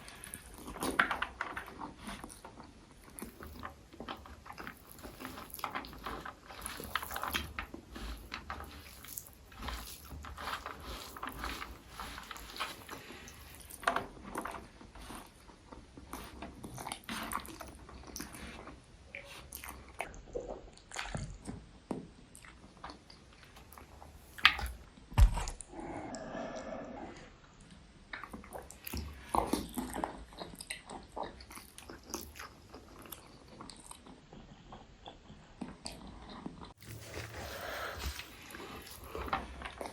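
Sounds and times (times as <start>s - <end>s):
chewing and wet mouth sounds: 0.0s - 24.9s, 25.5s - 39.9s.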